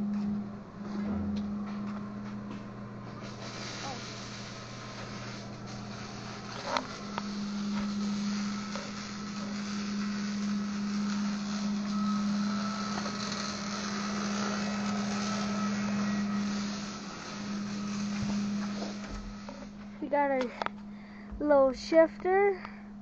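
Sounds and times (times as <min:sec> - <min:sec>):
steady machine hum: 0:00.0 - 0:23.0
constant hiss: 0:00.8 - 0:22.7.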